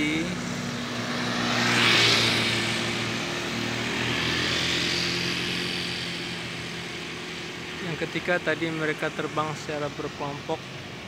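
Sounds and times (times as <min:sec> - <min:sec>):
low traffic engine hum: 0:00.0 - 0:11.0
vehicle passing close by: 0:00.0 - 0:11.0.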